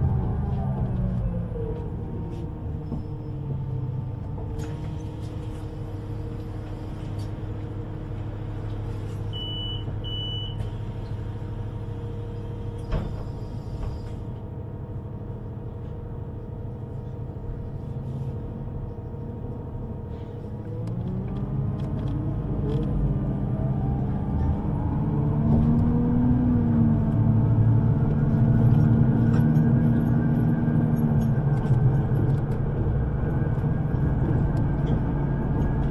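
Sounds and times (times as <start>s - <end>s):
train hum and rumble: 0.0s - 35.9s.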